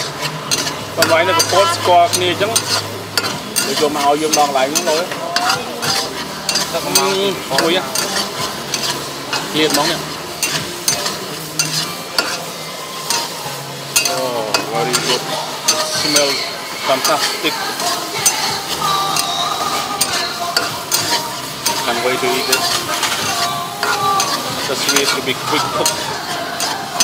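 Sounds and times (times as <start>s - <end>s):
food sizzling in a wok: 0.0s - 27.0s
metal ladle scraping a wok: 0.0s - 27.0s.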